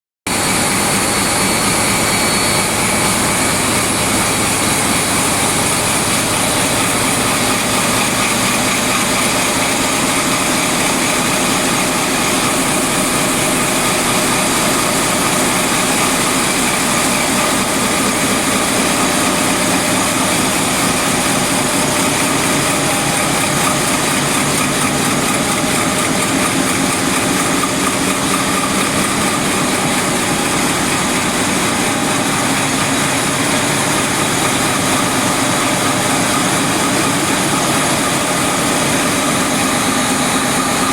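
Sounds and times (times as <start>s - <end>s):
engine room machinery running: 0.3s - 40.9s.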